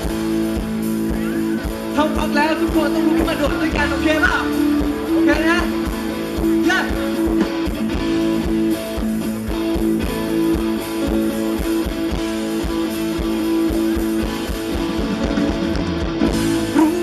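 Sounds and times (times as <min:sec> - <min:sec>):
held guitar chords: 0:00.0 - 0:17.0
steady drum beat: 0:00.0 - 0:17.0.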